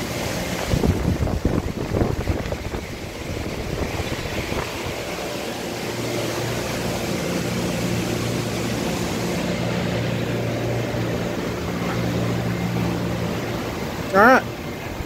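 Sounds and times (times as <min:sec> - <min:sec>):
machine shop equipment humming: 0:00.0 - 0:15.0.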